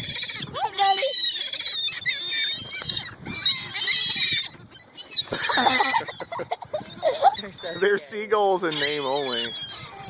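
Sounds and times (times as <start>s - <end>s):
gulls calling: 0.0s - 10.0s.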